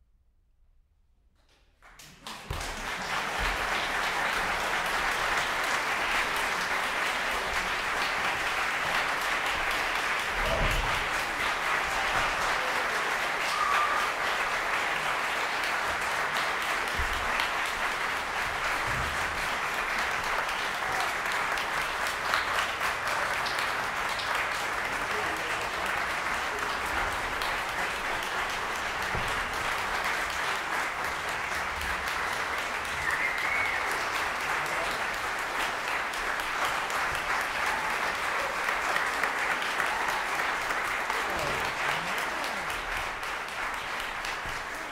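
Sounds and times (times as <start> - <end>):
audience applauding: 1.8 - 44.9.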